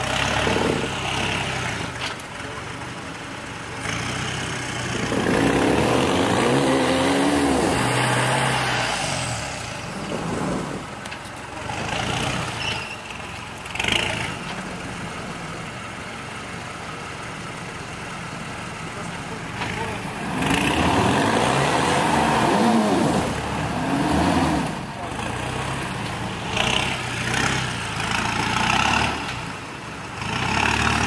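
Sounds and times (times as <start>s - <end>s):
off-road engine revving: 0.0s - 15.2s, 18.8s - 31.0s.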